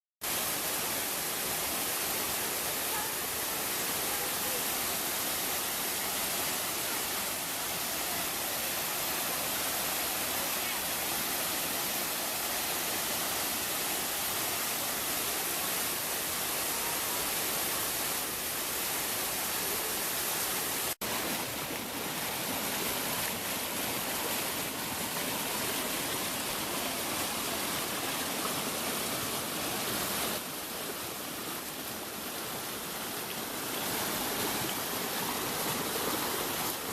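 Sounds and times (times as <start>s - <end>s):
waterfall rushing: 0.2s - 36.9s.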